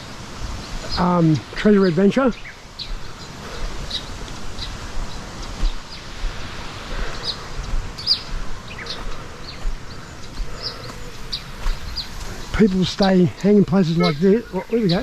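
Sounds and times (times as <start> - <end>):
outdoor noise haze: 0.0 - 15.0
small birds chirping: 0.0 - 15.0.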